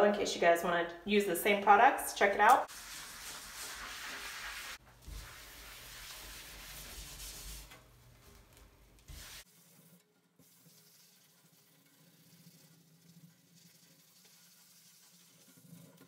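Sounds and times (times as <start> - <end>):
sponge scrubbing glass door: 2.6 - 16.0.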